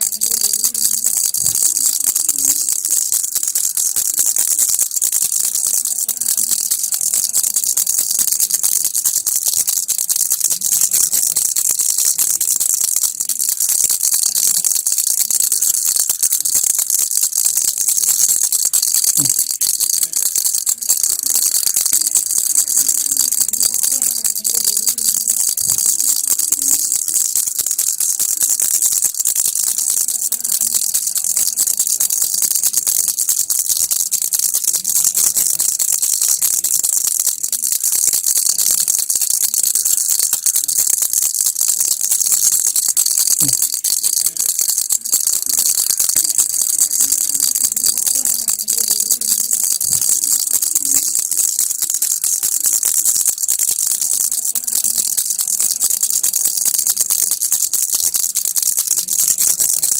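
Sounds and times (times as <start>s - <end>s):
baby rattle shaking: 0.0s - 59.9s.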